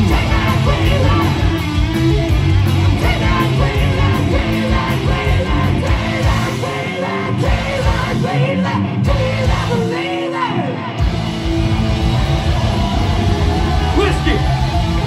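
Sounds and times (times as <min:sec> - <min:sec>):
singer yelling and singing: 0:00.0 - 0:11.1, 0:13.5 - 0:15.0
bass: 0:00.0 - 0:15.0
distorted electric guitars: 0:00.0 - 0:15.0
drums: 0:00.0 - 0:15.0.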